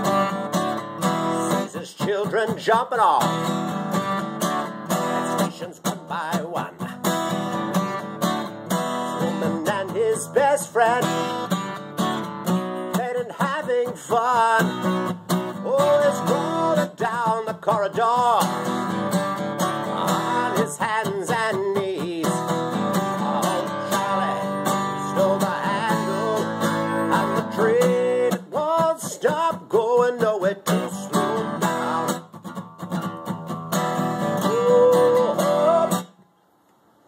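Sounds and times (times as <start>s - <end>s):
acoustic guitar strumming chords: 0.0s - 36.2s.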